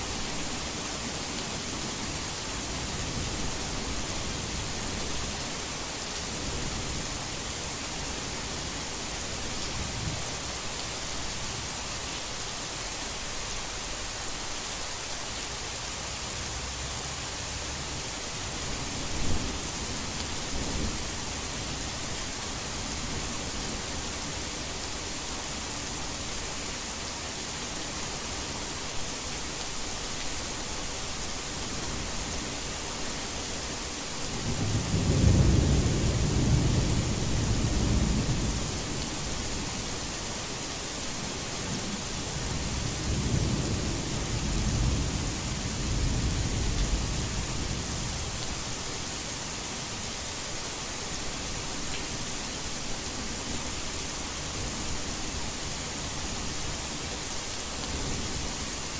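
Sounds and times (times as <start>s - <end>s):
heavy rain hiss: 0.0s - 58.9s.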